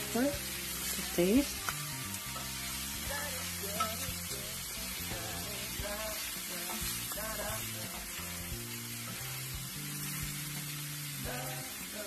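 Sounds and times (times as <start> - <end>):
background music: 0.0 - 12.0
pork and onion sizzling: 0.0 - 12.0.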